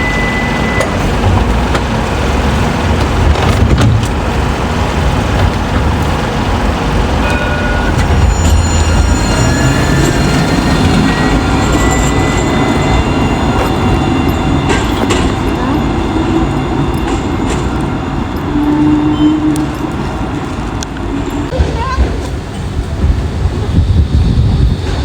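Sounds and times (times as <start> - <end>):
tram rumbling: 0.0 - 25.0.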